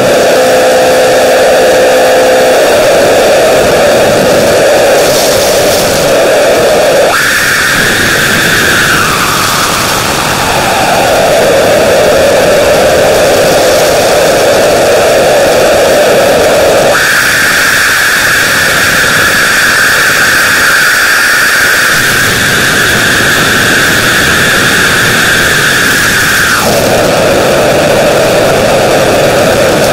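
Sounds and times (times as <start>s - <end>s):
harsh static hiss: 0.0s - 29.9s.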